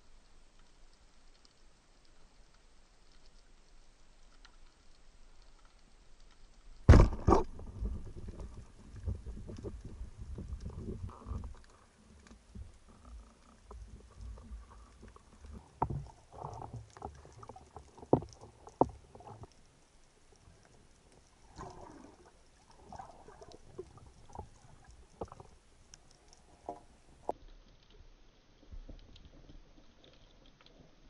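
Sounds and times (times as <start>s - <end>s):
underwater sloshing and gurgling: 0.0s - 31.0s.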